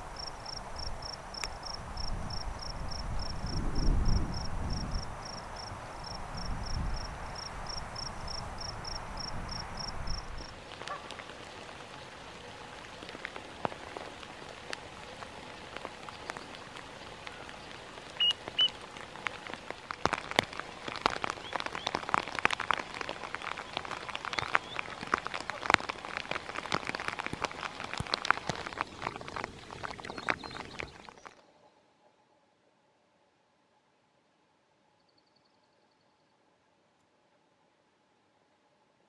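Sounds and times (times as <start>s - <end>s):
raindrops pattering: 0.0s - 31.4s.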